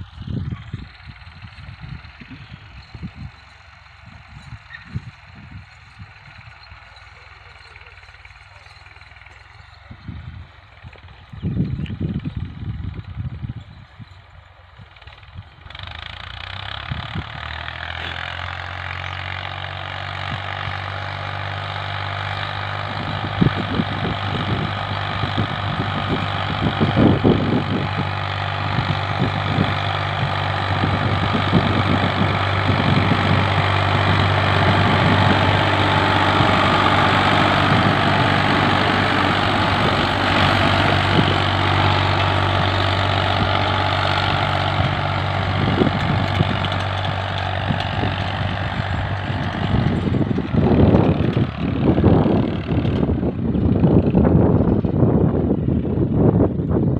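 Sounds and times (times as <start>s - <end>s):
tractor engine under load: 0.0s - 56.9s.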